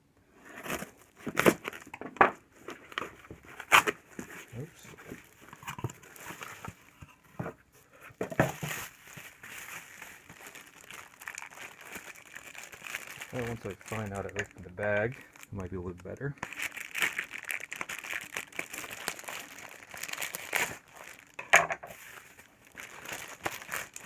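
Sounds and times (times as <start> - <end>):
plastic bubble wrap bag crinkling: 2.6 - 7.2, 8.4 - 24.0.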